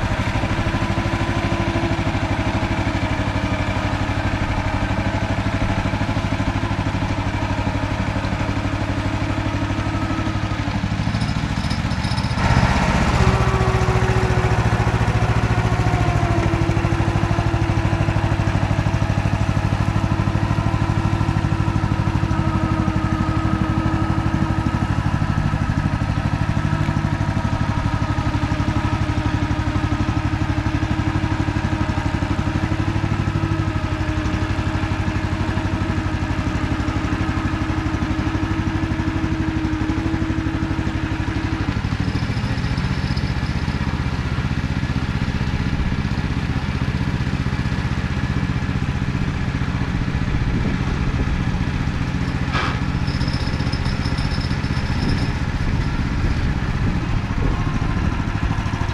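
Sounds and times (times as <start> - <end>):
walking tractor engine running: 0.0 - 58.9.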